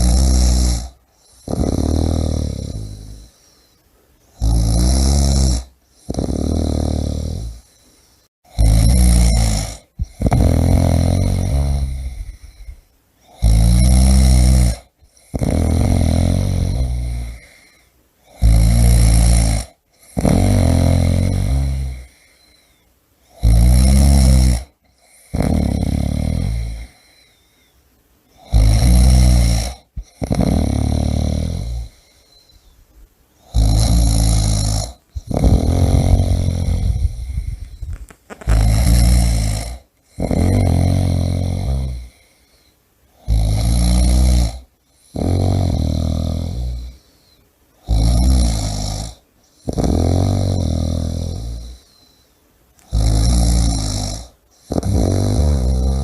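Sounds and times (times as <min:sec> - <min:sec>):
person snoring loudly: 0:00.0 - 0:03.5, 0:04.4 - 0:07.7, 0:08.5 - 0:22.5, 0:23.3 - 0:27.3, 0:28.4 - 0:32.4, 0:33.4 - 0:42.4, 0:43.2 - 0:47.1, 0:47.8 - 0:52.0, 0:52.8 - 0:56.0.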